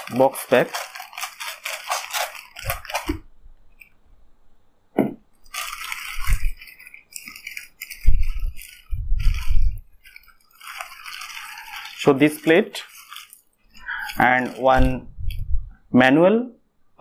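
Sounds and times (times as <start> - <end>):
plastic packaging crinkling: 0.0 - 4.0, 5.4 - 15.5.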